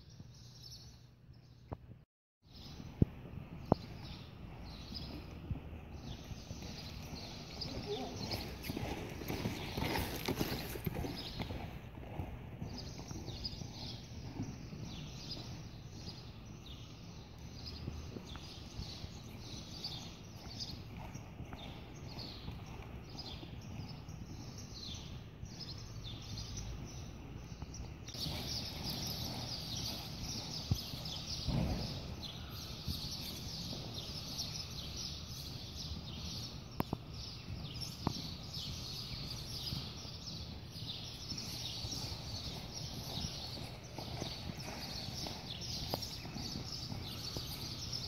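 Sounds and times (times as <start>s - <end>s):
small birds chirping: 3.6s - 48.0s
horse hoofbeats on dirt: 3.8s - 16.6s, 17.4s - 48.0s.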